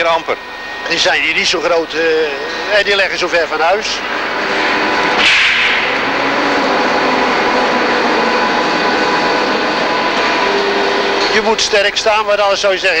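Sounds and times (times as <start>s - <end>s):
factory machinery roar: 0.0s - 13.0s.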